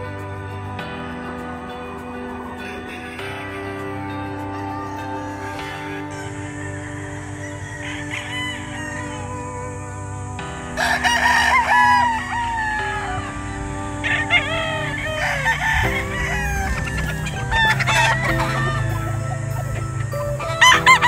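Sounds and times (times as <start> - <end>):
background music with held notes: 0.0 - 21.0
roosters crowing: 1.3 - 21.0.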